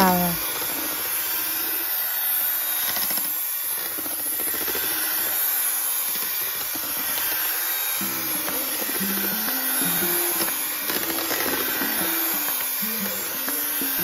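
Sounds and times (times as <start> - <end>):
electric hand mixer whirring: 0.0 - 14.0.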